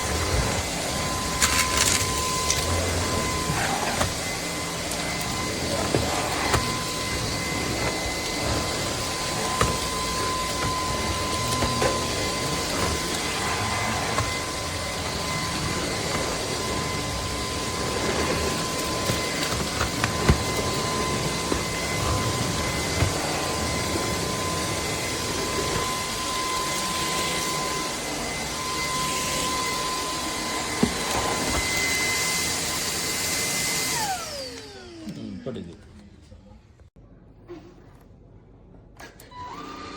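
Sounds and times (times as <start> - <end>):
vacuum cleaner running: 0.0 - 36.9, 39.0 - 39.9.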